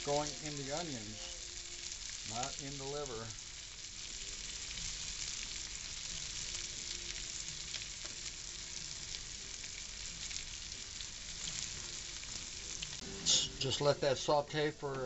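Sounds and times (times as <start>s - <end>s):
food sizzling in a frying pan: 0.0s - 15.0s
small crackles of frying: 0.0s - 15.0s.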